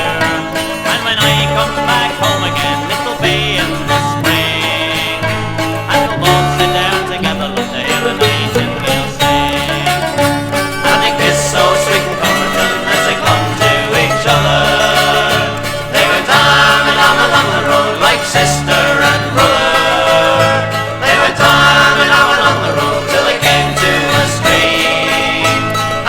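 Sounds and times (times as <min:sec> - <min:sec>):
bass line: 0:00.0 - 0:26.0
bluegrass band playing: 0:00.0 - 0:26.0.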